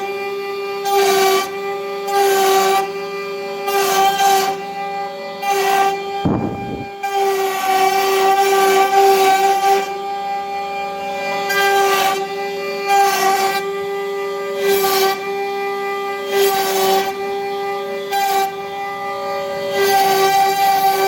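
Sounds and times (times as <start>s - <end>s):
router spindle whining: 0.0s - 21.0s.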